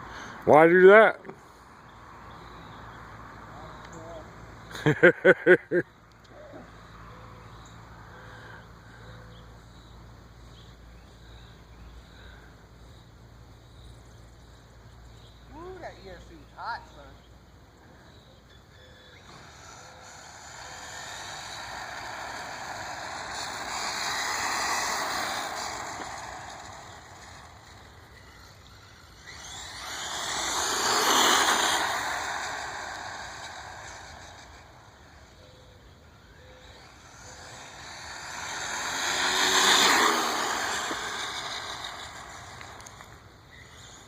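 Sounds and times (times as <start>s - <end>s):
rc car passing with whoosh: 0.0s - 44.0s.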